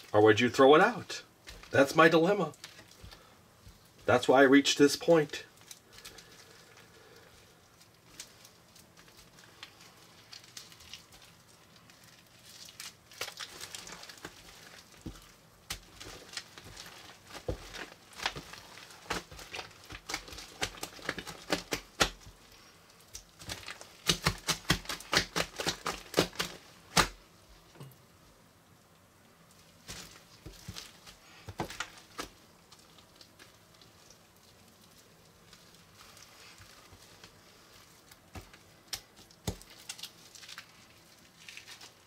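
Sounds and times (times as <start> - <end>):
slime clicking and crackling: 5.1 - 27.2, 29.8 - 42.0.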